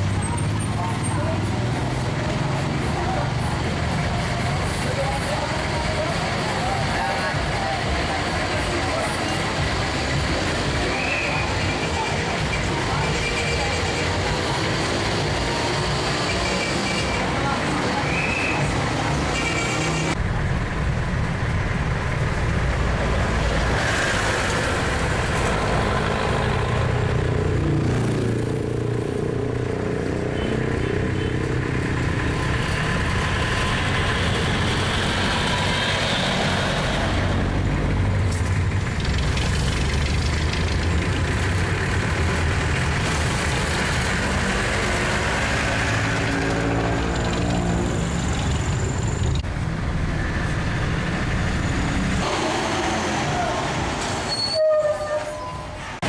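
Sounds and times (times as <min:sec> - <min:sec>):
diesel engines passing by: 0:00.0 - 0:56.0.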